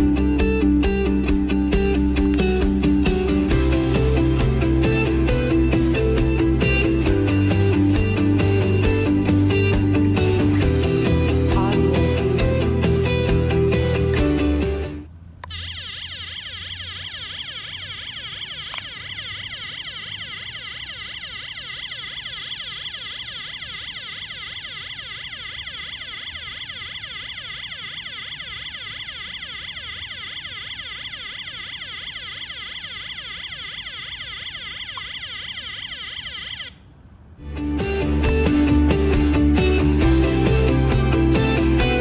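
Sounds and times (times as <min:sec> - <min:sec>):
car alarm siren wailing: 0:00.0 - 0:36.9.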